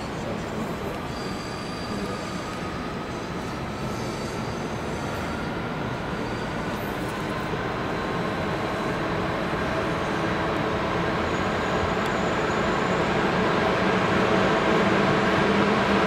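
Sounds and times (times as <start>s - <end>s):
diesel train running on rails: 0.0s - 16.0s.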